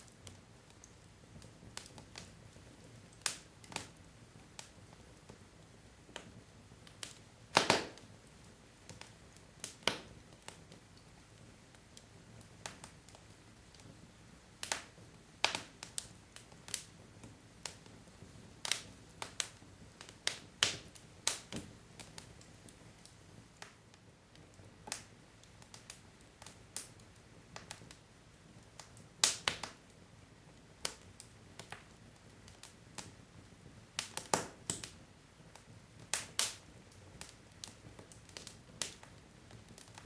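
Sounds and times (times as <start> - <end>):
low hiss of fire: 0.0 - 40.0
wood fire crackling and popping: 0.0 - 40.0.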